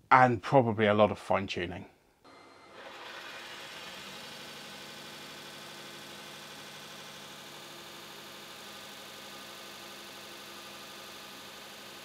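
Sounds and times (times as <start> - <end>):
lathe motor hum with hiss: 2.3 - 12.0.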